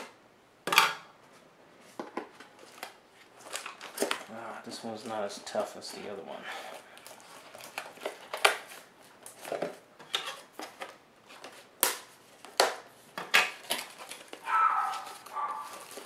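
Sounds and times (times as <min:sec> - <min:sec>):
packaging rustling: 0:02.1 - 0:16.0.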